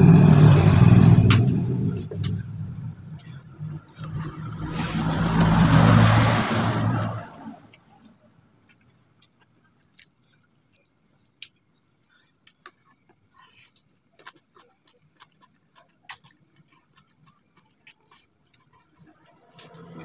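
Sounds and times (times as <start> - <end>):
man chewing and slurping noodles: 0.0 - 20.0.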